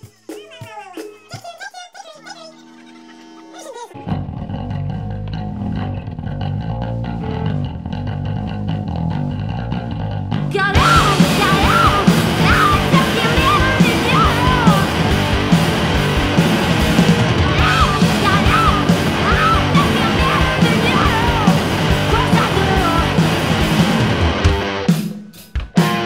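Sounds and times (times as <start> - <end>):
drums: 0.0 - 2.0, 2.6 - 26.0
distorted guitar: 2.4 - 26.0
bass guitar: 4.0 - 26.0.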